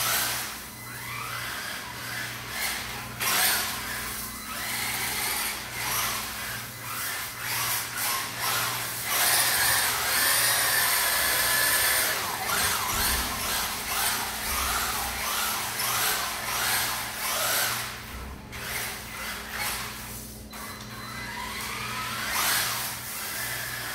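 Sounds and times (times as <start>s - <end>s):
rc car motor whining: 0.0s - 23.9s.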